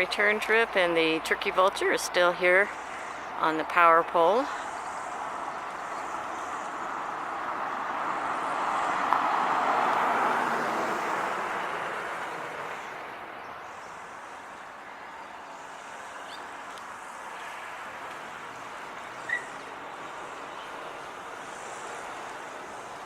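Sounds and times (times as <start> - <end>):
car passing by: 4.4 - 23.0.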